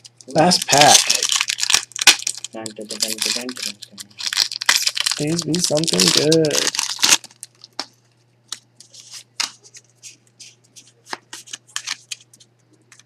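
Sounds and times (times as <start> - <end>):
foil wrapper crinkling: 0.3 - 7.9, 8.5 - 13.0.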